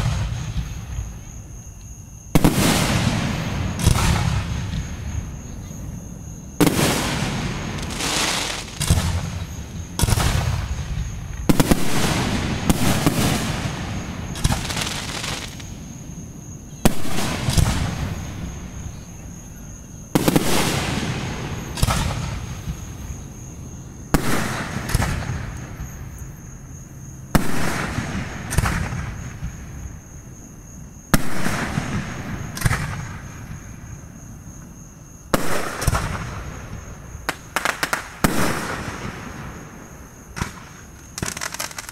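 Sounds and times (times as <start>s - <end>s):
fireworks bursting with echo: 0.0s - 1.2s, 2.3s - 5.8s, 6.5s - 16.2s, 16.8s - 19.4s, 20.1s - 23.2s, 24.1s - 26.0s, 27.3s - 29.8s, 31.1s - 33.8s, 35.3s - 41.9s.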